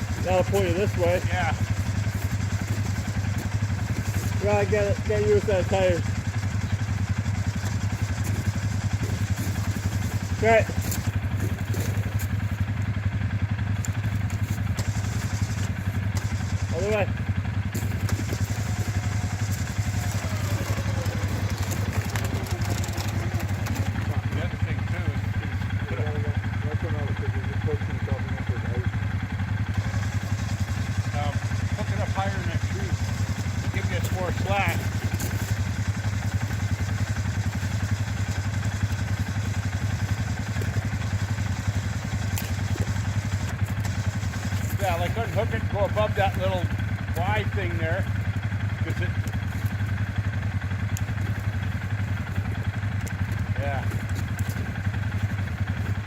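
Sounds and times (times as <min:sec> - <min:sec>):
atv engine idling: 0:00.0 - 0:56.0.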